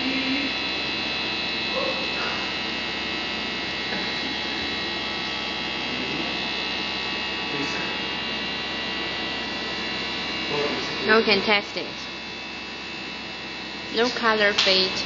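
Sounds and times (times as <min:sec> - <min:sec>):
high whine: 0:00.0 - 0:15.0
machine hum: 0:00.0 - 0:15.0.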